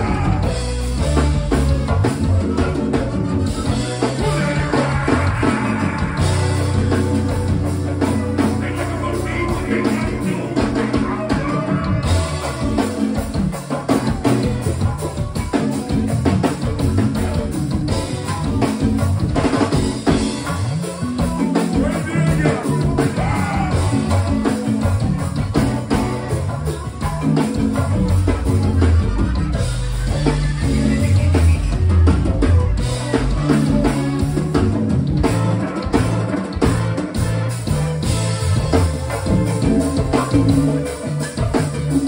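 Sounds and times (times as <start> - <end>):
bass line: 0.0 - 42.0
drum kit beat: 0.0 - 42.0
live band music: 0.0 - 42.0.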